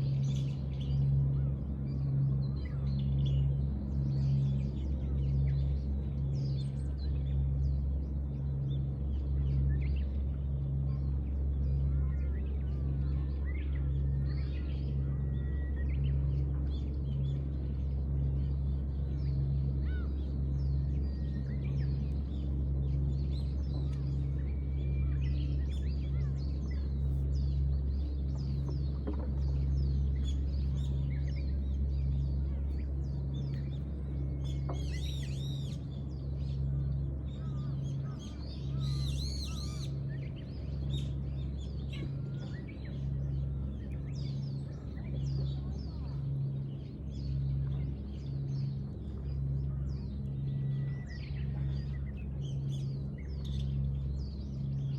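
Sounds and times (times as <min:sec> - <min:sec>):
small birds chirping: 0:00.0 - 0:54.9
throbbing low machine hum: 0:00.0 - 0:54.9.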